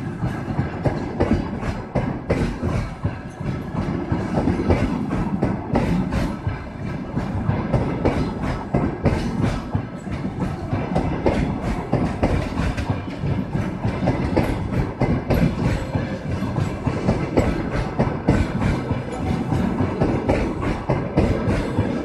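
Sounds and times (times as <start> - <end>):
train rumble: 0.0 - 22.0
train wheels clattering: 0.0 - 22.0.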